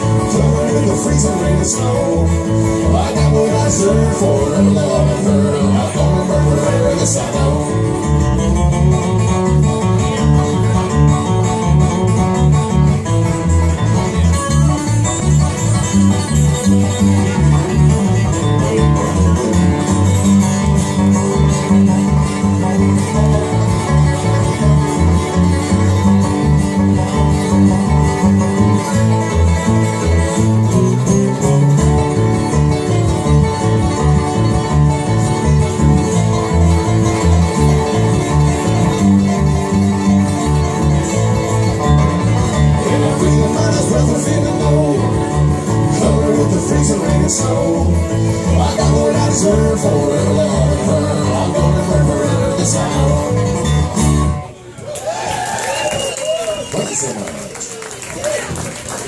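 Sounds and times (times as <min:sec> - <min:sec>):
picked banjo: 0:00.0 - 0:54.6
bluegrass band playing: 0:00.0 - 0:59.0.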